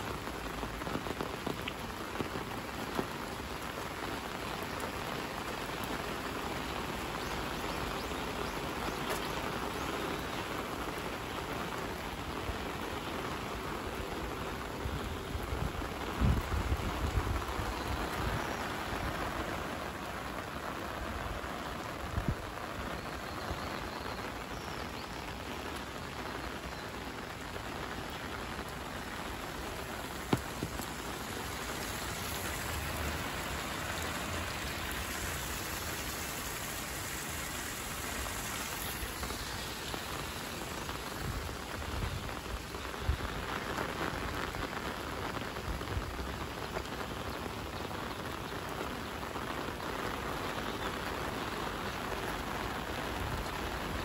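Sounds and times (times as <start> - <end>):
rain on pavement: 0.0 - 54.0
rain pattering on umbrella: 0.0 - 54.0.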